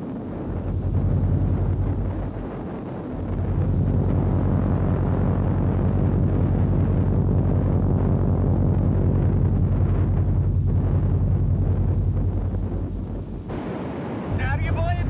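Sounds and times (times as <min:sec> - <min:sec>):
pulsing low droning rumble: 0:00.0 - 0:15.0.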